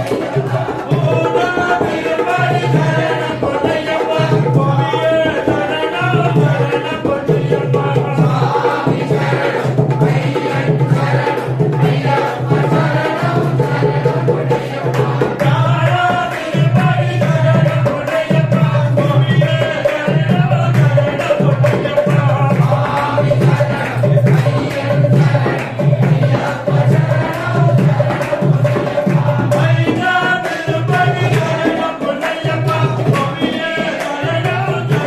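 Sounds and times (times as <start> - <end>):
hand drum rhythm: 0.0 - 35.0
person singing devotional song: 0.0 - 35.0.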